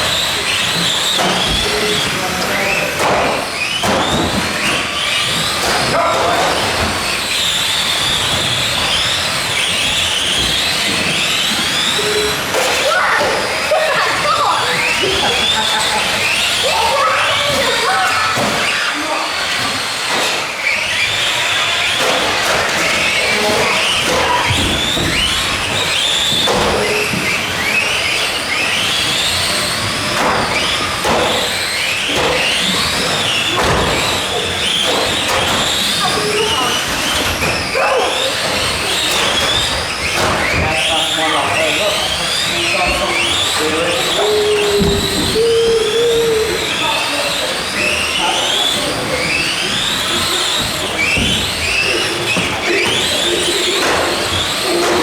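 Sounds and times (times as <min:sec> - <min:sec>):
electric toy truck motors whining: 0:00.0 - 0:55.0.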